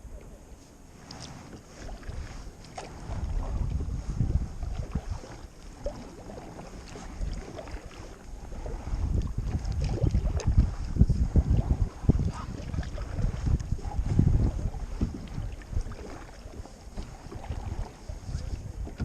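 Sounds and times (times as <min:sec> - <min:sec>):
wind buffeting microphone: 0:00.0 - 0:19.0
paddle strokes splashing: 0:00.2 - 0:19.0.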